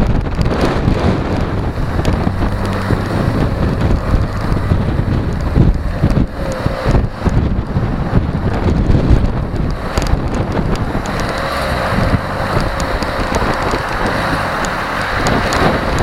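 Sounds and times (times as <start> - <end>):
car engine rumble: 0.0 - 16.0
wind buffeting microphone: 0.0 - 16.0.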